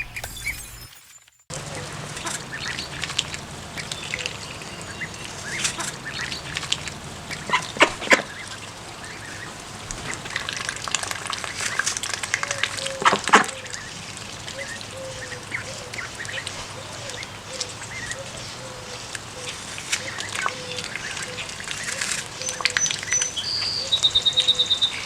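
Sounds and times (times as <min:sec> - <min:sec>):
ducklings peeping: 0:01.5 - 0:25.0
ducks quacking: 0:01.5 - 0:25.0.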